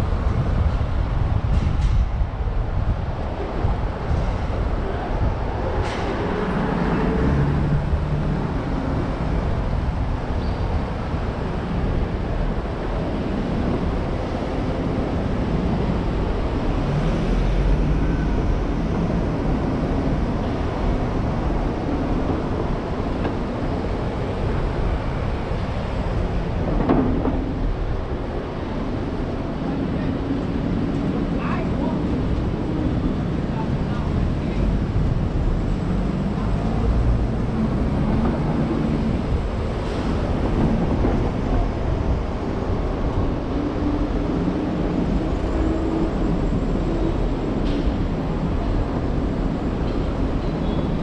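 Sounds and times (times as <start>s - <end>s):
road and engine noise: 0.0s - 51.0s.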